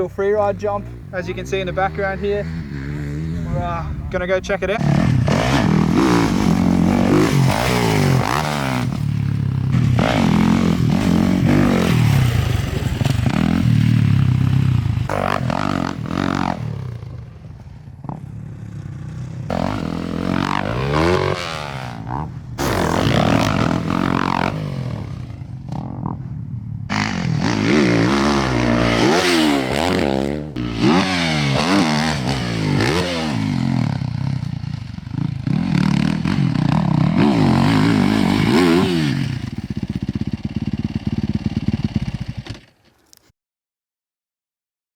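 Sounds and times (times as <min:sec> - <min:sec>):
dirt bike engine revving: 0:00.0 - 0:26.3, 0:26.9 - 0:42.7.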